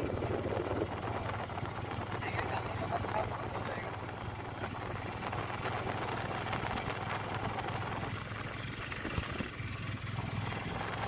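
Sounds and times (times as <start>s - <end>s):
small vehicle driving on road: 0.0s - 11.0s.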